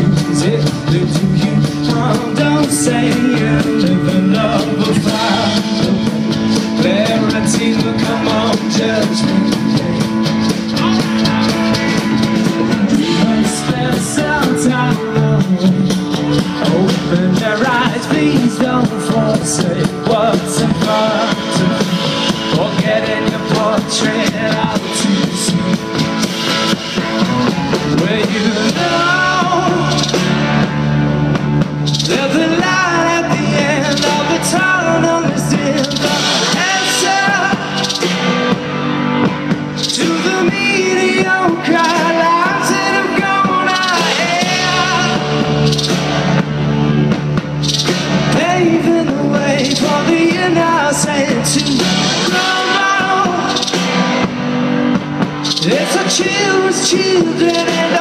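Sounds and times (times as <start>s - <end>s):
voices singing together: 0.0s - 26.4s, 27.6s - 30.7s, 32.0s - 39.0s, 39.8s - 46.9s, 47.9s - 54.4s, 55.5s - 58.0s
rock band playing live: 0.0s - 58.0s.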